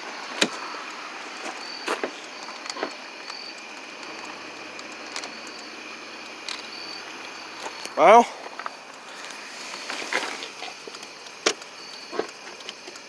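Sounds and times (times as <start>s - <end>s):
crickets chirping: 0.0s - 13.0s
steady hiss: 0.0s - 13.0s.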